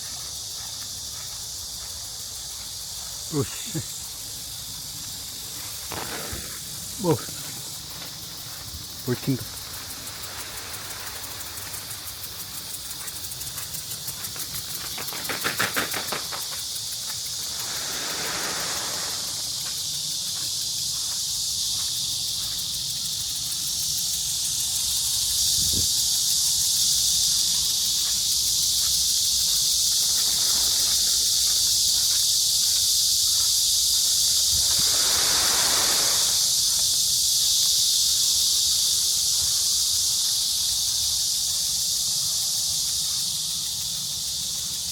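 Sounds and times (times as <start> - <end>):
cicadas buzzing: 0.0 - 44.9
lower insect calls pulsing: 0.0 - 44.9.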